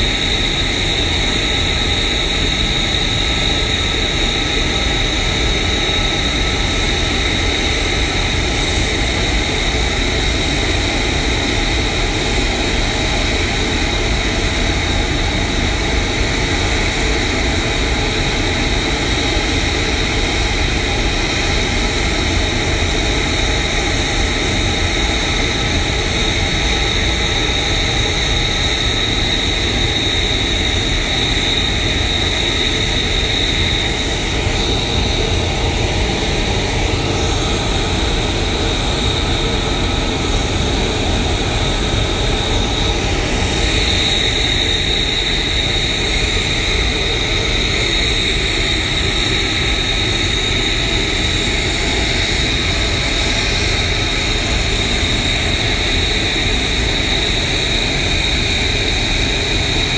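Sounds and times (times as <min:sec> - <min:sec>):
jet engine running steadily: 0:00.0 - 0:59.9.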